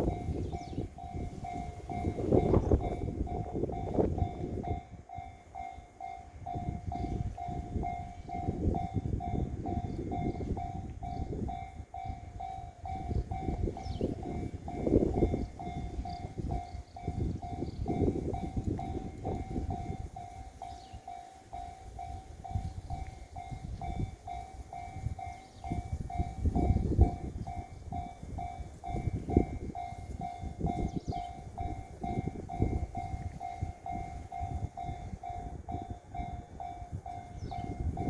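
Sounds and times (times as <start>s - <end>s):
level crossing warning bell ringing: 0.0s - 38.0s
wind buffeting microphone: 0.0s - 38.0s.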